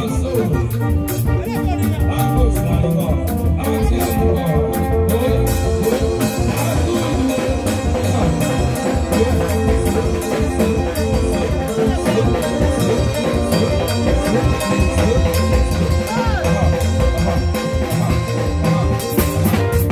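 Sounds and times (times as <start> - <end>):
man singing into a microphone: 0.0 - 19.2
drum kit with cymbals: 0.0 - 19.9
held keyboard or guitar notes: 0.0 - 19.9.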